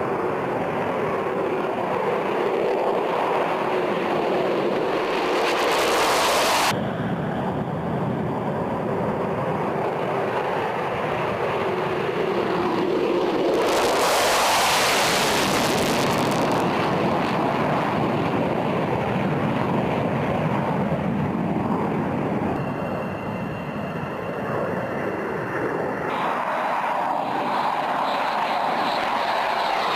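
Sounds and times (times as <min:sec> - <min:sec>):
jet engine rushing: 0:00.0 - 0:29.9.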